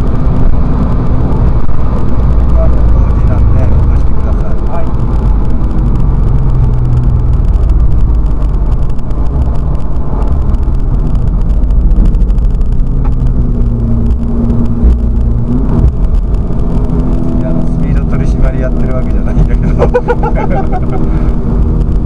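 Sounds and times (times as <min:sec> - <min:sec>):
race car engine: 0:00.0 - 0:22.0
road noise inside car: 0:00.0 - 0:22.0.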